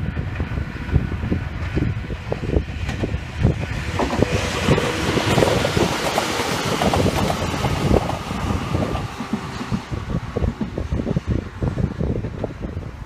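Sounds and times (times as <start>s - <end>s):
electric train passing: 0.0s - 13.0s
wind buffeting microphone: 0.0s - 13.0s.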